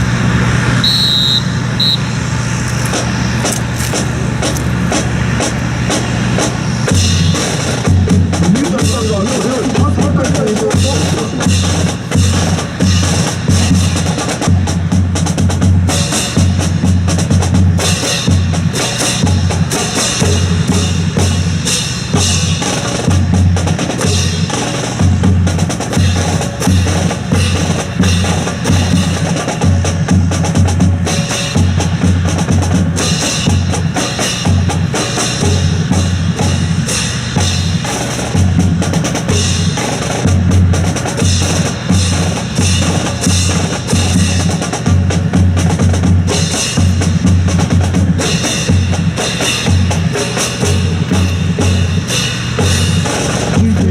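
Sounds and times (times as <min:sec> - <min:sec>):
bass drum beat: 0:00.8 - 0:53.9.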